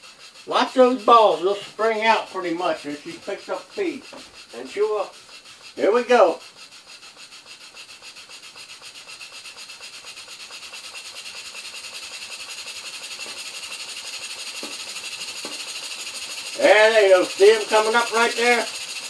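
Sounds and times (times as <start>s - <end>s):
steam engine exhaust puffing: 0.0s - 19.0s.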